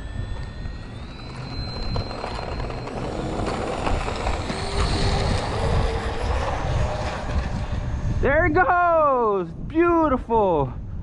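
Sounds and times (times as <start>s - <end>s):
low rumble: 0.0s - 11.0s
model jet fan whine: 0.0s - 11.0s.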